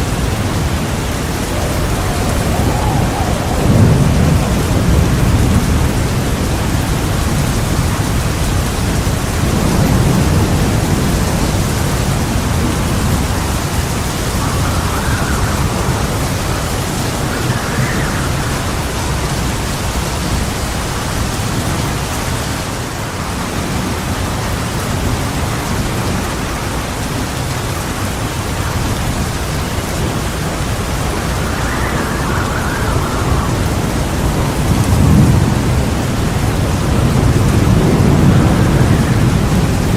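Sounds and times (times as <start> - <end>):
heavy rain: 0.0 - 39.9
low rolling thunder: 0.0 - 39.9.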